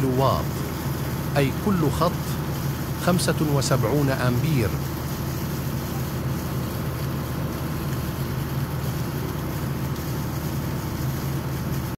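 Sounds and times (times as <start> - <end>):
water gushing from pipe: 0.0 - 11.9.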